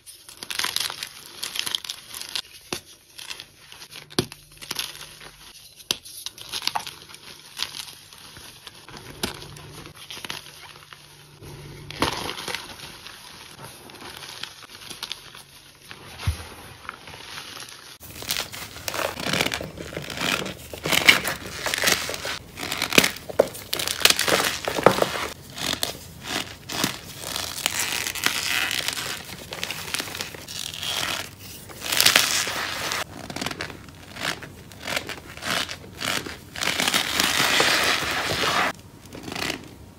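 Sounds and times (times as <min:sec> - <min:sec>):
powder crunching and squeaking: 0:00.0 - 0:39.9.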